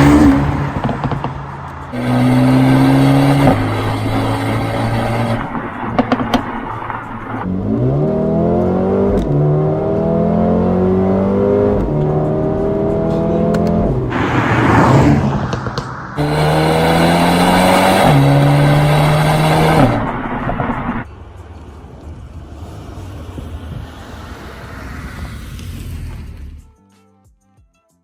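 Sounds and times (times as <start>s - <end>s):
car engine accelerating hard: 0.0s - 26.7s.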